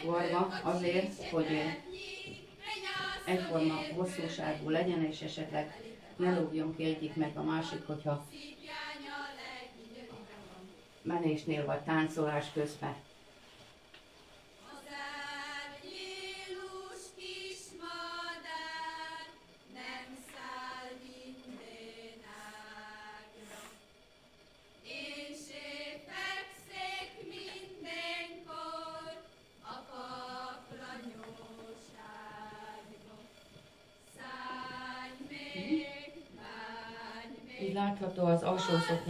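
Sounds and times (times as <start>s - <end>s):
group singing unaccompanied: 0.0s - 10.9s, 14.6s - 23.8s, 24.8s - 39.0s.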